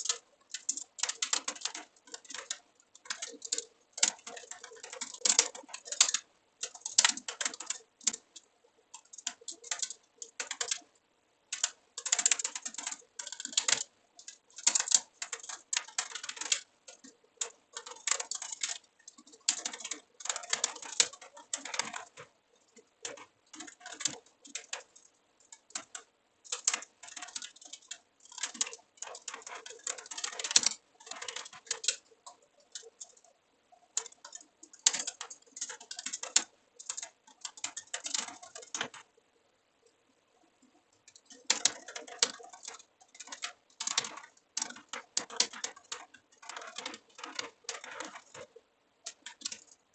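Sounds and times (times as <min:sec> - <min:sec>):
typing on computer keyboard: 0:00.0 - 0:49.9.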